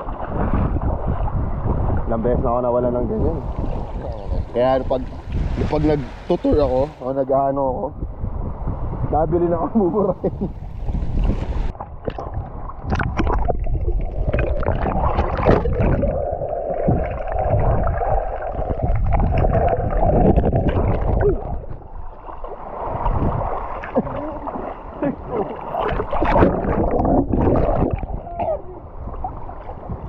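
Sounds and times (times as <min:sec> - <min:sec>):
water sloshing and gurgling: 0:00.0 - 0:07.0, 0:08.0 - 0:30.0.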